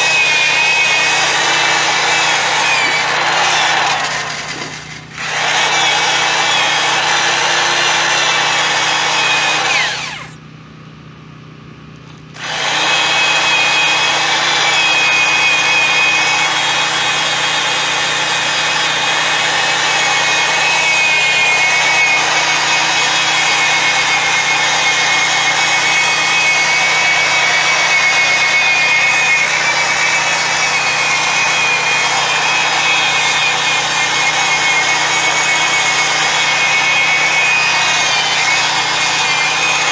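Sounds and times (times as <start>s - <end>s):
drill motor whine: 0.0s - 10.4s, 12.4s - 39.9s.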